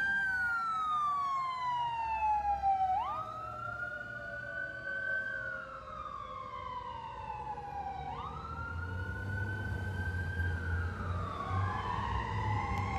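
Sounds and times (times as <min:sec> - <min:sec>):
emergency siren wailing: 0:00.0 - 0:12.9.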